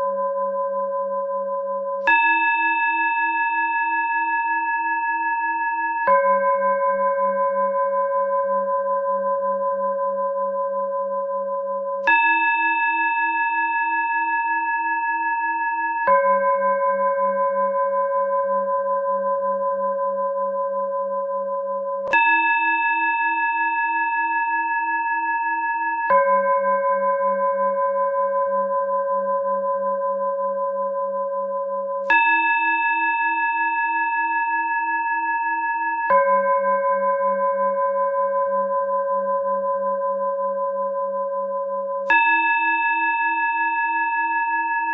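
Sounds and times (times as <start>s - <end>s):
high singing bowl ringing: 0.0s - 44.9s
low singing bowl ringing: 0.0s - 44.9s.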